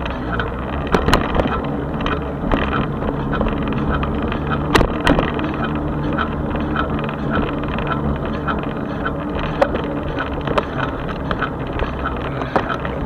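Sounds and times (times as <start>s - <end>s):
light rattles and ticks: 0.0s - 13.0s
low hum: 0.0s - 13.0s
tyre rumble on road: 0.0s - 13.0s
sharp knocks: 0.2s - 12.9s.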